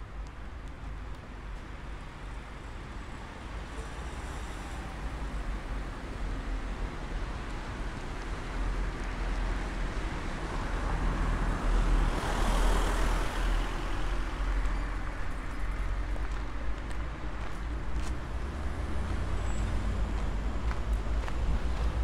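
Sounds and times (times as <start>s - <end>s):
low rumble of street noise: 0.0s - 22.0s.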